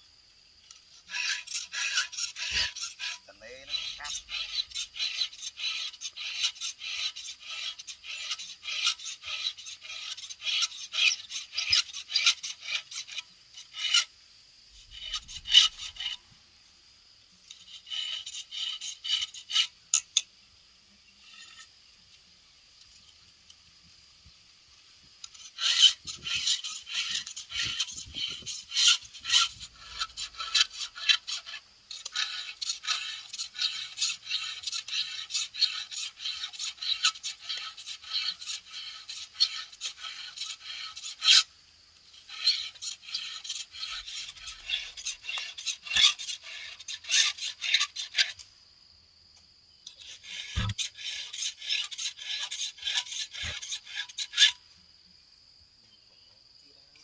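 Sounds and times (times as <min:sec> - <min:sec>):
file scraping chainsaw chain: 0:00.7 - 0:14.1, 0:14.7 - 0:16.2, 0:17.5 - 0:20.2, 0:25.2 - 0:48.5, 0:49.9 - 0:54.6.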